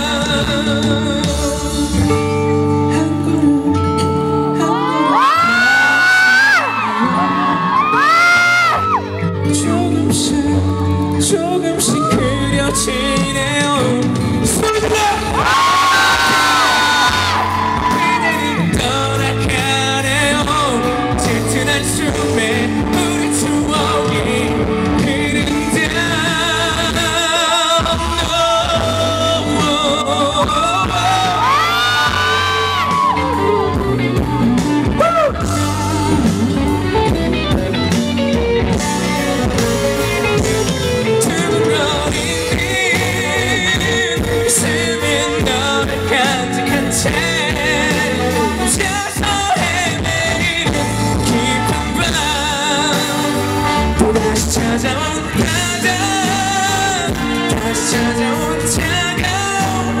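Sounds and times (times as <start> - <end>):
person singing: 0.0 - 60.0
pop-rock band playing: 0.0 - 60.0.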